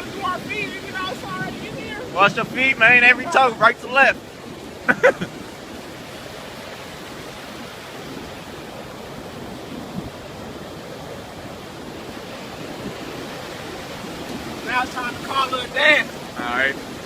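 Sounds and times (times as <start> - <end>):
ocean surf washing up: 0.0 - 17.0.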